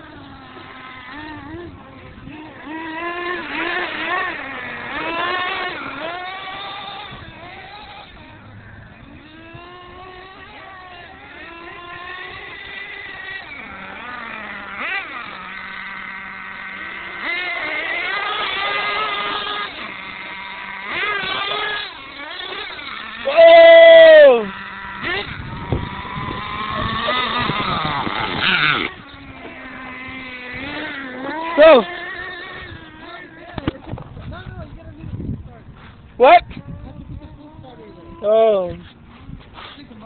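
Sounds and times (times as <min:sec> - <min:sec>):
small engines revving high buzz: 0:00.0 - 0:40.0.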